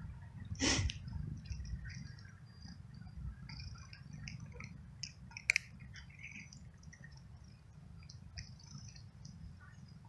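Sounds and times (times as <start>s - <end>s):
kitten crunching dry food: 0.9s - 9.8s.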